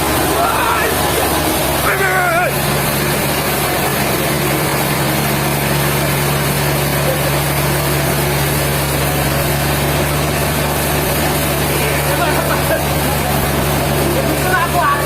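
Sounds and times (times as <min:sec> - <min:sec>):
sawmill machinery motor running: 0:00.0 - 0:15.0.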